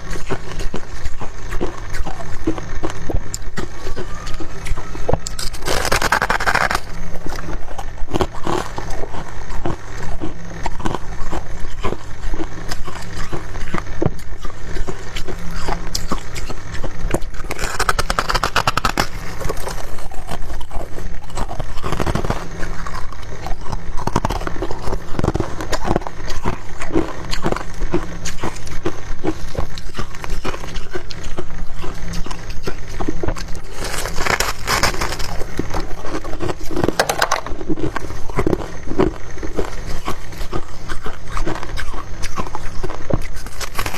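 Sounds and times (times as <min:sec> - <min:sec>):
frost being chewed crunching: 0:00.0 - 0:43.9
steady low hum: 0:00.0 - 0:43.9.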